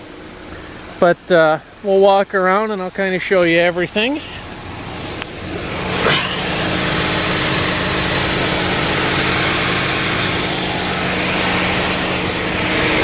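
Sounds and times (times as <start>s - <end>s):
car engine idling: 0.0s - 13.0s
rushing hiss: 0.4s - 13.0s.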